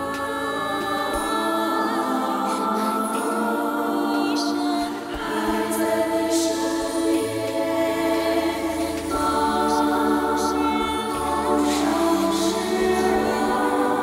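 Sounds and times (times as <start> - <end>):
sung ballad with orchestra: 0.0 - 14.0.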